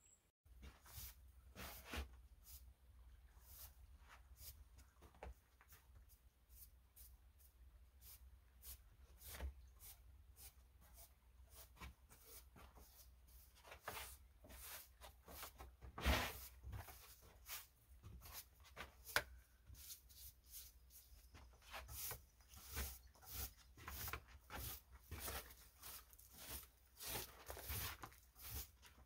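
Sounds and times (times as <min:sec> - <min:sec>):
broom sweeping on wooden boards: 0:00.6 - 0:04.8, 0:05.6 - 0:29.0.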